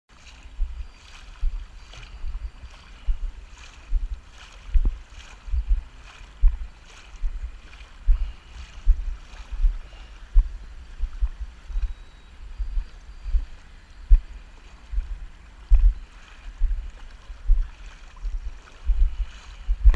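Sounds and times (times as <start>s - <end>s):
oars splashing in water: 0.1s - 13.5s, 14.2s - 19.9s.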